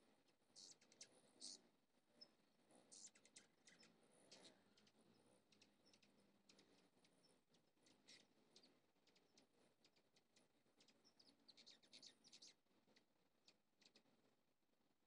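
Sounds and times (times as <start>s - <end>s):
hummingbird chips and ticks: 0.3s - 1.6s, 2.2s - 14.1s.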